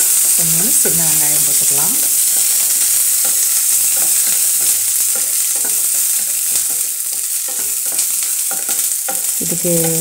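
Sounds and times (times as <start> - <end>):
shallots sizzling in oil: 0.0 - 10.0
spatula stirring strokes: 0.0 - 10.0.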